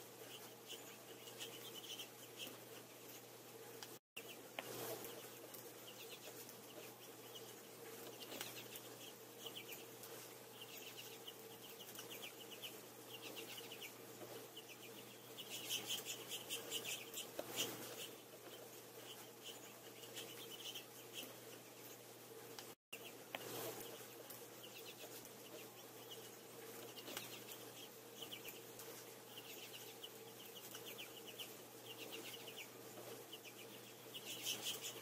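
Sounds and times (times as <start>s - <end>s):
finches chirping and twittering: 0.0s - 3.3s, 4.2s - 22.1s, 23.0s - 35.0s
faint steady hum: 0.0s - 35.0s.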